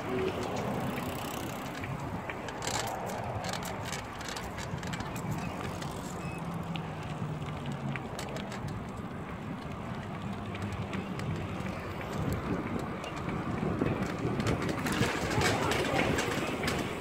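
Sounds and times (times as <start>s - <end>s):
wind on microphone: 0.0s - 6.4s, 7.1s - 17.0s
bicycle tyre noise and rattling: 0.0s - 17.0s
sharp clicks and rattles: 0.0s - 17.0s.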